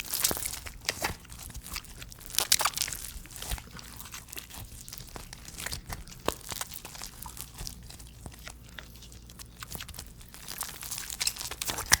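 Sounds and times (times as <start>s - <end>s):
crunchy slime crackling: 0.0s - 12.0s.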